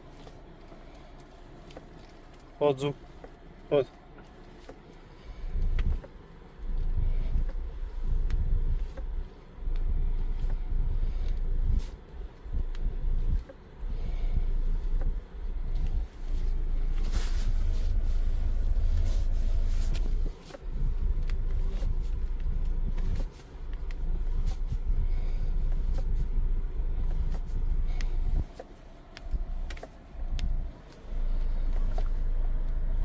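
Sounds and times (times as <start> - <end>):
car rumble in motion: 0.0 - 33.0.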